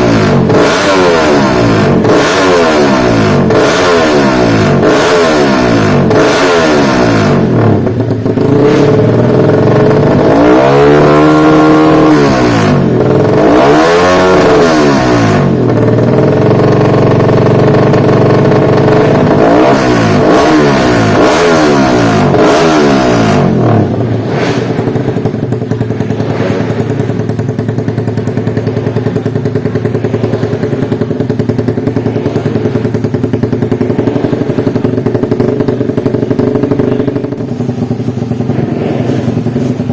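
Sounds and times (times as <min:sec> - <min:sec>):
engine idling: 0:00.0 - 0:39.9
motorcycle engine revving: 0:00.0 - 0:39.9.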